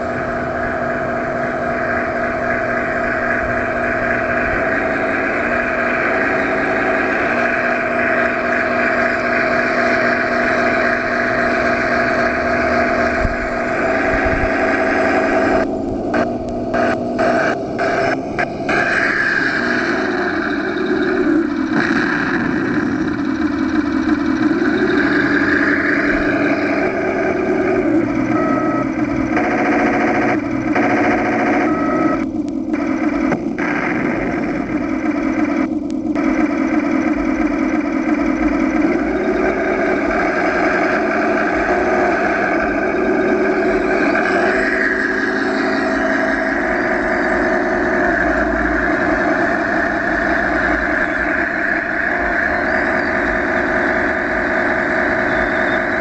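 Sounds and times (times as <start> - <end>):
toy tank engine and drive whirring: 0.0 - 56.0.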